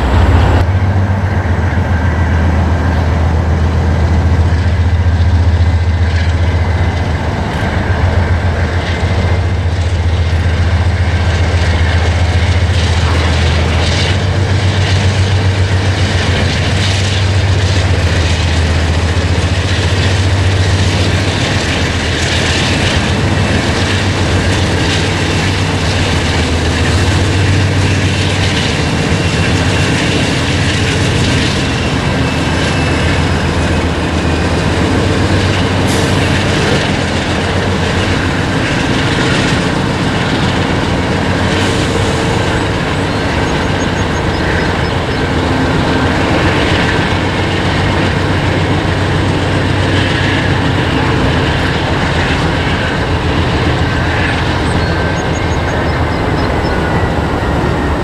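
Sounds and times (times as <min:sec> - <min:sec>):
diesel locomotive engines droning: 0:00.0 - 0:58.0
train wheels clacking on rails: 0:00.0 - 0:58.0.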